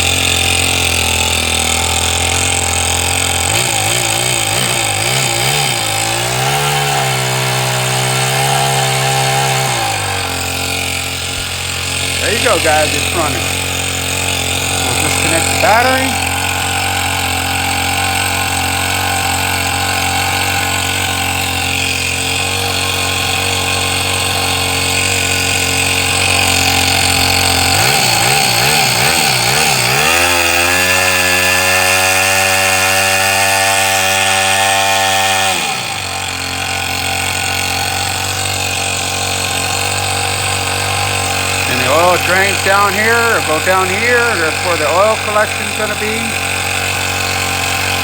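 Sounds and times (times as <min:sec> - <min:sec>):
model engine running: 0:00.0 - 0:48.0.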